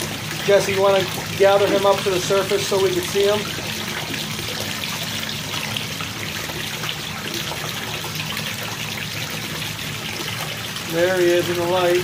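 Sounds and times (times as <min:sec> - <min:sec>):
low steady pump hum: 0:00.0 - 0:12.0
water splashing into pond: 0:00.0 - 0:12.0.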